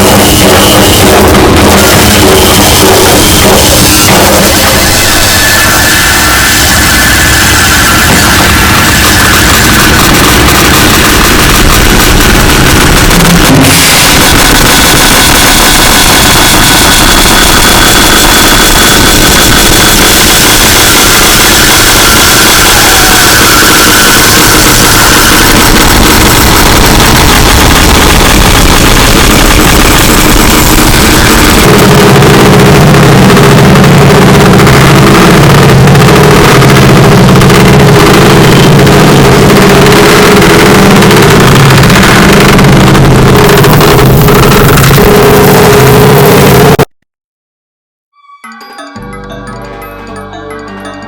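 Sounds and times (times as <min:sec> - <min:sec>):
low humming tones: 0:00.0 - 0:46.5
thin high whine: 0:00.0 - 0:46.8
distorted noise music: 0:00.0 - 0:46.9, 0:48.6 - 0:51.0.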